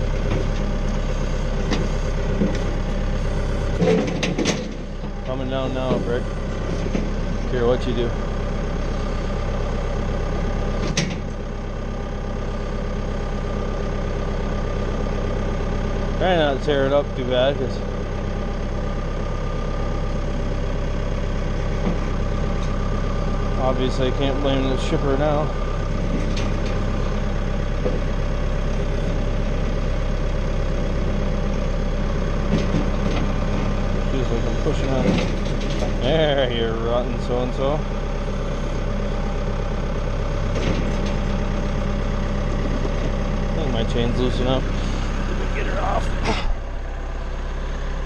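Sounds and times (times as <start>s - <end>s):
tractor engine idling: 0.0s - 48.0s.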